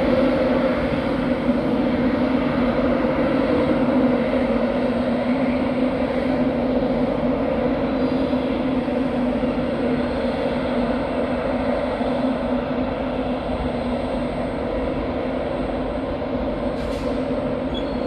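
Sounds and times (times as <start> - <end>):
train moving slowly: 0.0 - 18.0.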